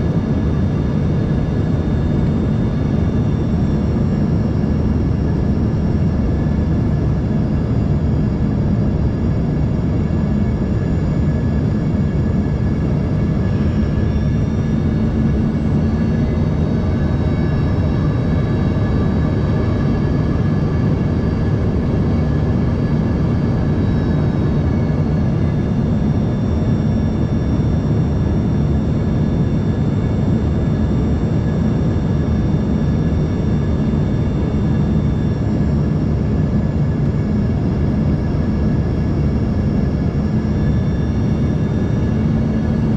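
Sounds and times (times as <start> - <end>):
jet engines in flight: 0.0 - 42.9
thin high engine whines: 0.0 - 42.9.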